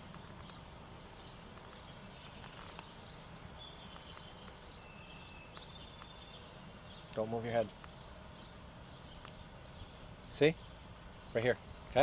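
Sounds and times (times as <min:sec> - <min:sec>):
high bird chirps: 0:00.4 - 0:12.0.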